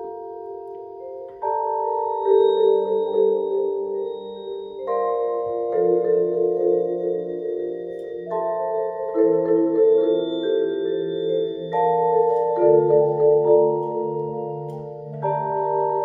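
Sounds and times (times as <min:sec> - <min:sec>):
mallet percussion chords: 0:00.0 - 0:16.0.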